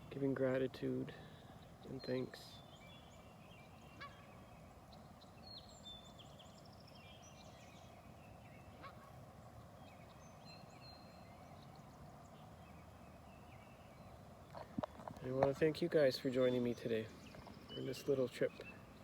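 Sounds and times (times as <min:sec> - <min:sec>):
faint songbirds chirping: 0:00.0 - 0:19.0.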